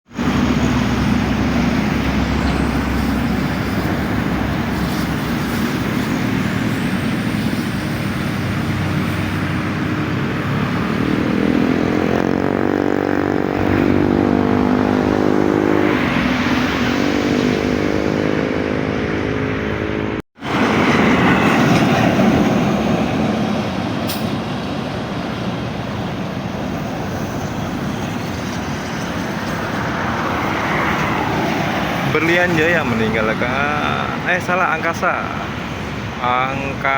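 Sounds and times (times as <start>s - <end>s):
bus diesel engines running: 0.1s - 36.9s
traffic: 0.1s - 36.9s.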